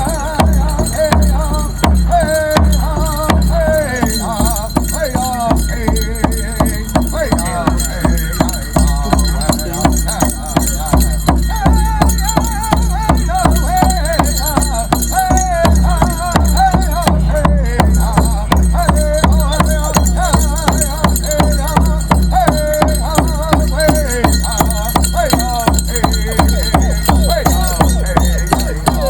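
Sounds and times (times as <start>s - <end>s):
big drum beaten fast: 0.0s - 29.0s
jingling metal bells: 0.0s - 29.0s
voices singing: 0.0s - 29.0s.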